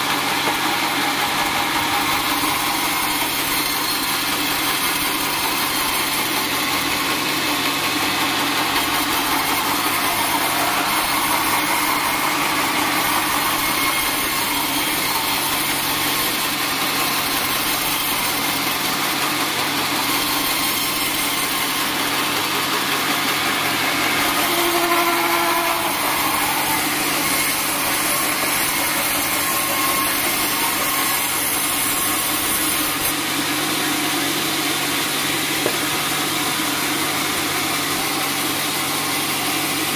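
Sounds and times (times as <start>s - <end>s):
saw squeal: 0.0s - 33.2s
band saw sawing log: 0.0s - 39.9s.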